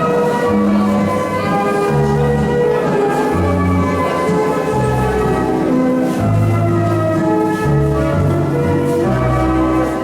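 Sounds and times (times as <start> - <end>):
ballroom dance music: 0.0 - 10.0.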